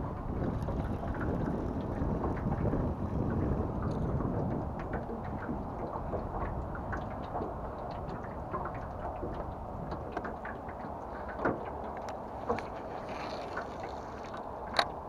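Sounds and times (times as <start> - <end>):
water lapping around boat: 0.0 - 15.0.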